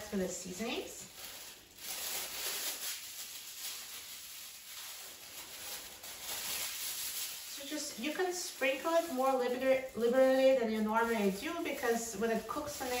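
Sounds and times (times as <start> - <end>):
plastic gloves crinkling: 0.0 - 13.0.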